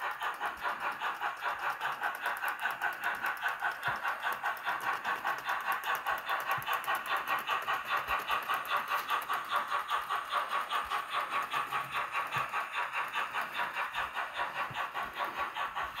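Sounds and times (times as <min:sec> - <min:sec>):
model train rattling on track: 0:00.0 - 0:16.0.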